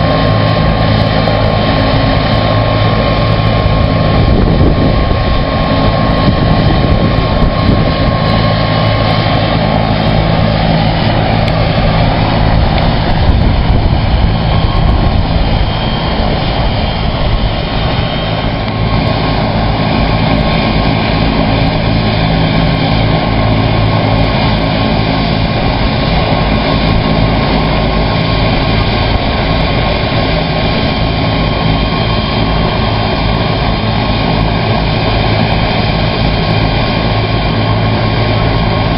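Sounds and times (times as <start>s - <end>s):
helicopter turbine and rotor: 0.0s - 38.9s
high-pitched whine: 0.0s - 38.9s.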